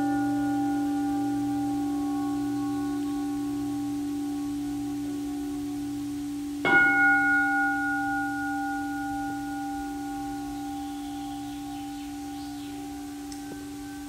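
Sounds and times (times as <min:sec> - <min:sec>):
low hum of singing bowl: 0:00.0 - 0:14.0
singing bowl ringing: 0:00.0 - 0:14.0.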